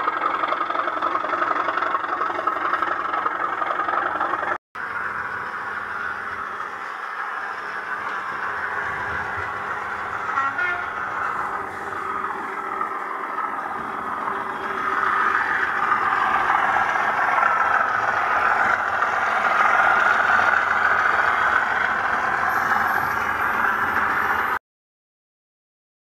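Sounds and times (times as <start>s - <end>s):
diesel engine sound from small speaker: 0.0s - 24.6s.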